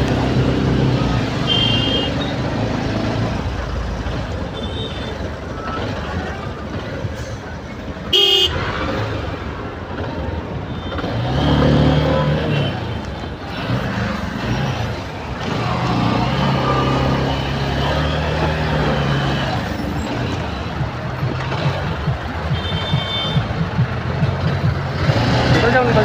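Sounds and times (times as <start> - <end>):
diesel truck engines humming: 0.0 - 26.0
road and wind noise: 0.0 - 26.0.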